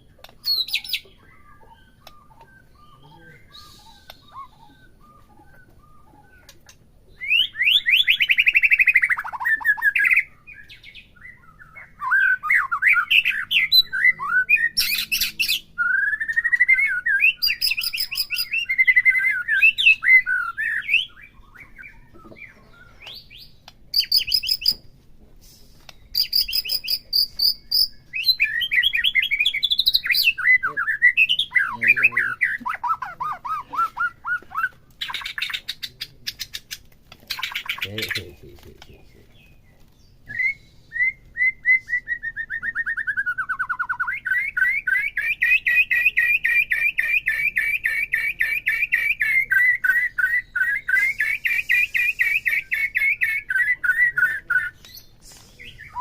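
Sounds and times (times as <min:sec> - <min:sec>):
bird singing whistled phrases and trills: 0:00.0 - 0:24.9, 0:25.7 - 0:56.0.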